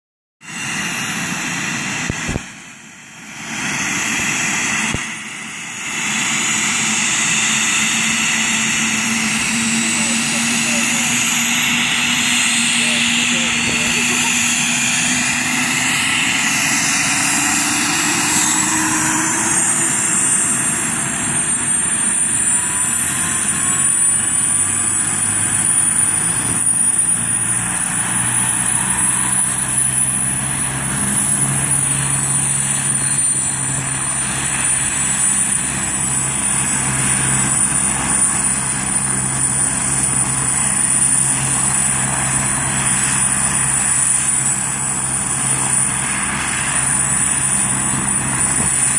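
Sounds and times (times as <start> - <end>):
helicopter engine whine: 0.4 - 48.9
rotor low hum: 0.6 - 48.9.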